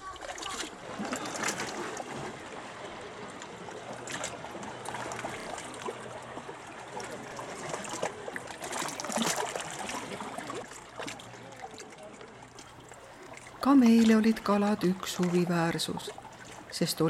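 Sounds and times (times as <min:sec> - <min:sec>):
sea water lapping and splashing: 0:00.0 - 0:17.0.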